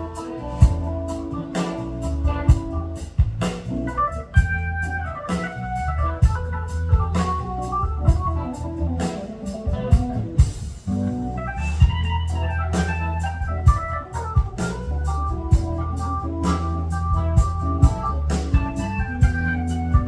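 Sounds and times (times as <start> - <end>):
keyboard chords: 0.0 - 20.0
steady bass: 0.0 - 20.0.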